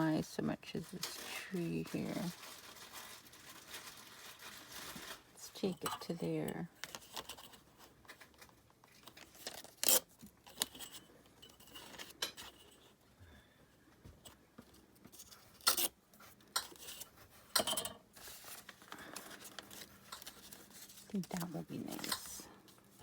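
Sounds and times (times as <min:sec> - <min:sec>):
paper crinkling and rustling: 0:00.0 - 0:13.0, 0:14.3 - 0:23.0.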